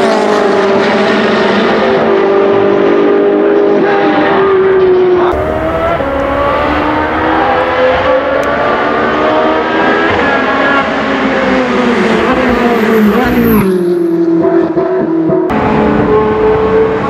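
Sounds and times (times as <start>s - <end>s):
racing engine at high revs: 0.0s - 17.0s.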